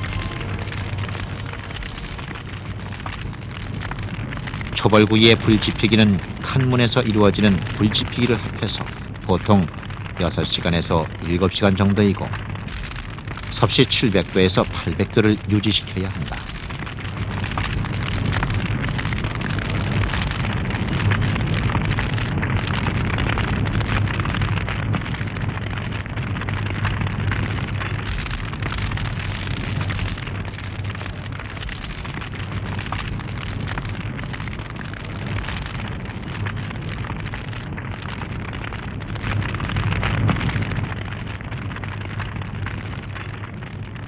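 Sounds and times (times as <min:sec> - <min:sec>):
wood fire rushing and crackling: 0:00.0 - 0:44.0.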